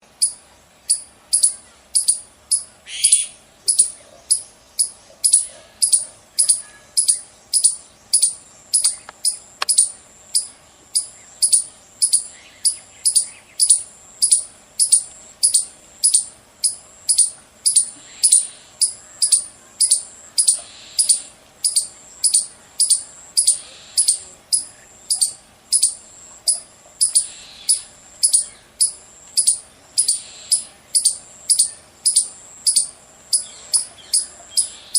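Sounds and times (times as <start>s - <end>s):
squirrel chirping: 0.2s - 34.9s.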